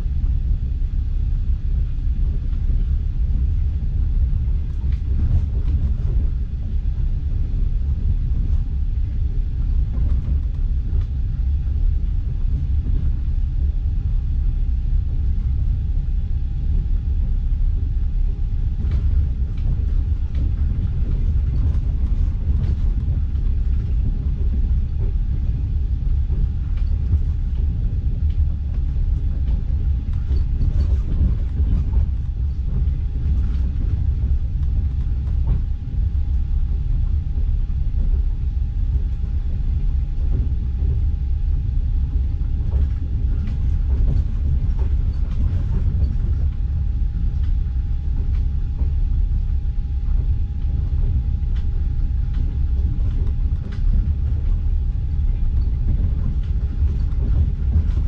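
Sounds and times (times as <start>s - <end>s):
train carriage rumble: 0.0s - 58.0s.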